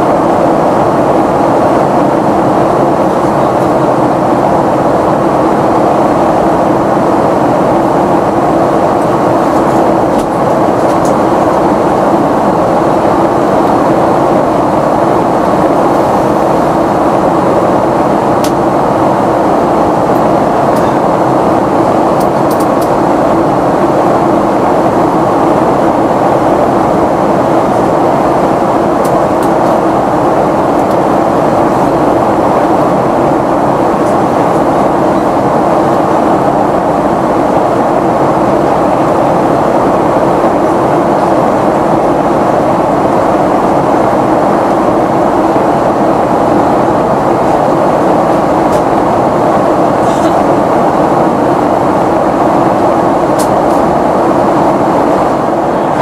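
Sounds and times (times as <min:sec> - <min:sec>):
air rushing along fuselage: 0:00.0 - 0:56.0
jet engines droning: 0:00.0 - 0:56.0
steady low hum: 0:00.0 - 0:56.0.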